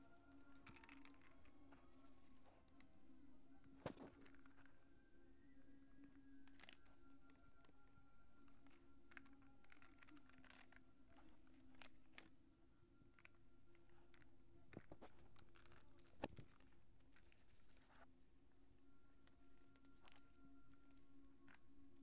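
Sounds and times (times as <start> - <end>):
paper and plastic toys rustling: 0.0 - 2.9, 3.6 - 4.7, 6.0 - 7.7, 8.4 - 12.4, 13.2 - 22.0
faint steady hum: 0.0 - 22.0.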